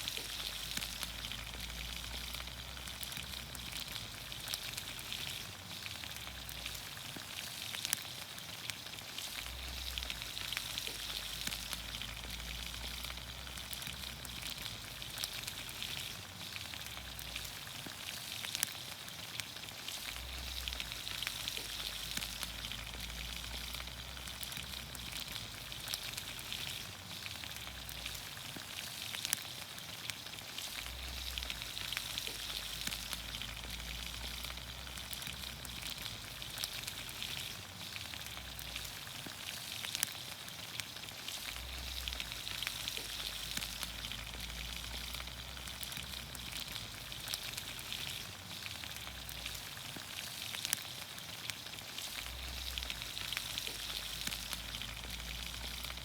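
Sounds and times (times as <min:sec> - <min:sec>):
pops and crackles: 0:00.0 - 0:56.0
vegetables sizzling in oil: 0:00.0 - 0:56.0.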